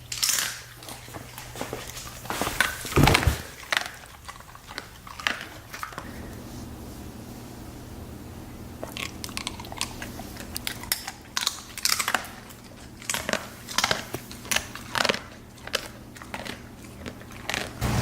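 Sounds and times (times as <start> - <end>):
dog chewing crunchy treat: 0.0 - 6.2, 8.8 - 17.8.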